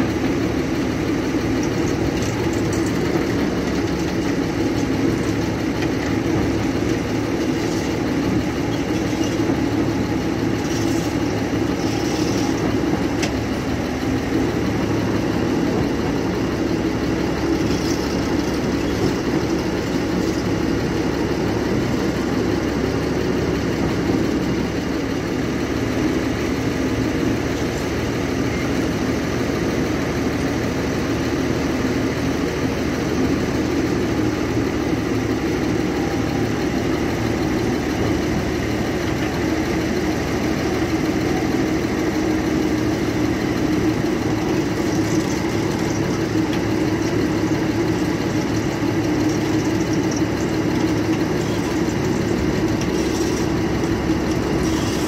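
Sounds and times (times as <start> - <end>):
heavy machine engine running: 0.0 - 55.0.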